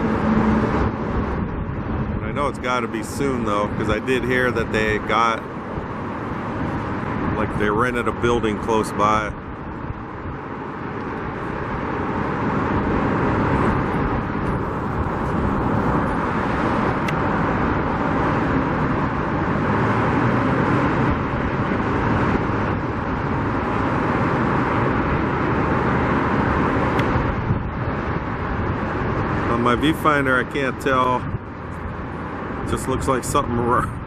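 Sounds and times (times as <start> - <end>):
road traffic hum: 0.0 - 34.0.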